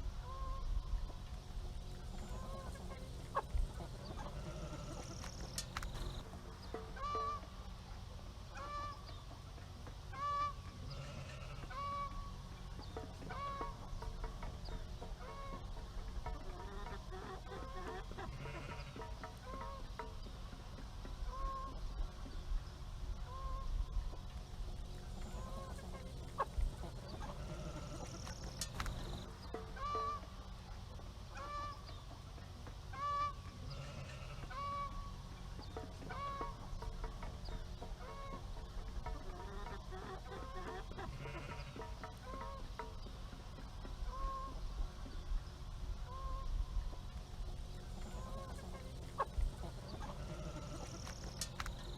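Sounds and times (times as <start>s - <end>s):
low background hum: 0.0s - 51.9s
steady low rumble: 0.0s - 51.9s
farm bird honking calls: 0.2s - 9.5s, 10.1s - 20.5s, 21.2s - 51.9s.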